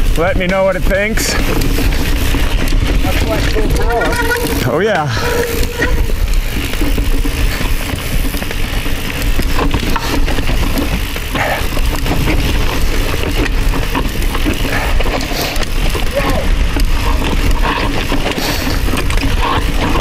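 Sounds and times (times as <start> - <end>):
bike knocking and rattling: 0.0 - 20.0
rolling tyre rumble: 0.0 - 20.0.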